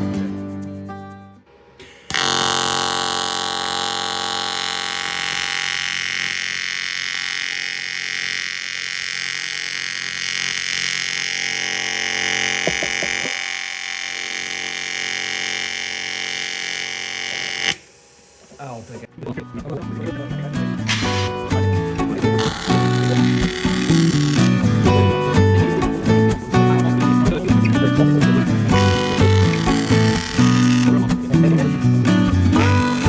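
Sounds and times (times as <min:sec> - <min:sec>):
welding arc buzzing: 0:01.8 - 0:19.1, 0:20.7 - 0:33.0.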